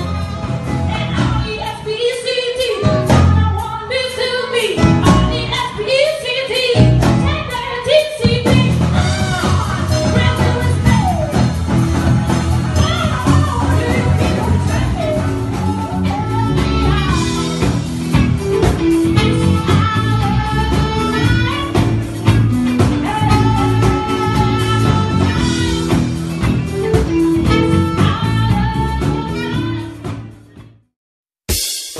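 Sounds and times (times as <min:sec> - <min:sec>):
live funk band playing: 0:00.0 - 0:30.9, 0:31.5 - 0:31.9.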